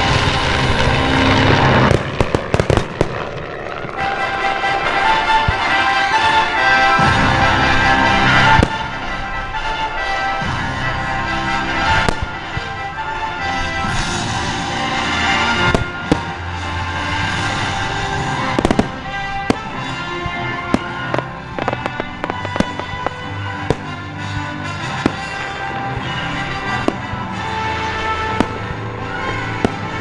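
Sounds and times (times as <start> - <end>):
background music: 0.0 - 30.0
fireworks bangs and pops: 0.0 - 30.0.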